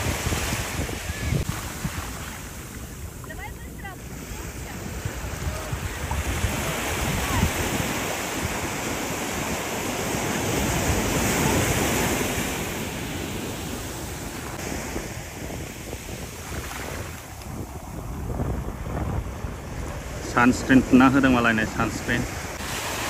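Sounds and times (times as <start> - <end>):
surf breaking on a beach: 0.0 - 23.0
wind buffeting the microphone: 0.0 - 23.0.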